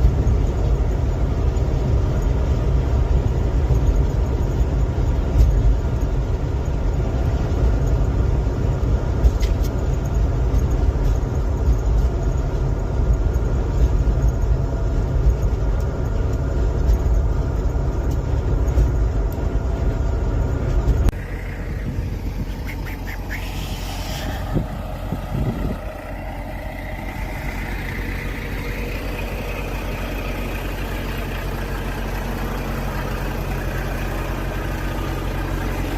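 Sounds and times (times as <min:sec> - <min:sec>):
vehicle engine and road noise: 0:00.0 - 0:35.9.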